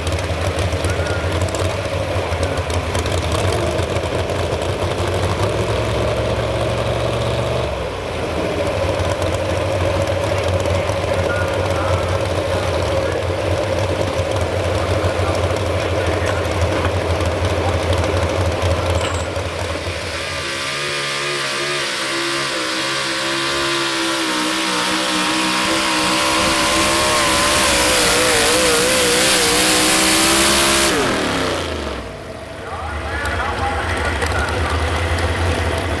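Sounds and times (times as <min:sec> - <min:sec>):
truck engine rumbling and revving: 0:00.0 - 0:36.0.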